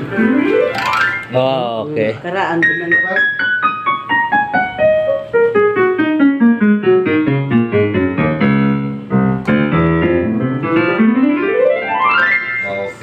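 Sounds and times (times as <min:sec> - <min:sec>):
electronic keyboard piano notes: 0:00.0 - 0:13.0.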